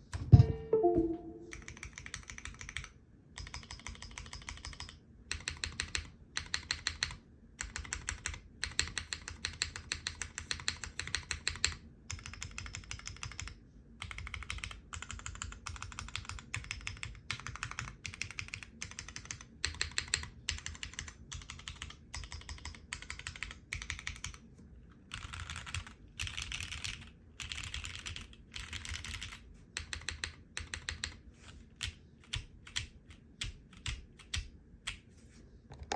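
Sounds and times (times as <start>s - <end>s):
mechanical keyboard typing: 0.6s - 24.4s, 25.1s - 31.2s, 31.8s - 34.5s.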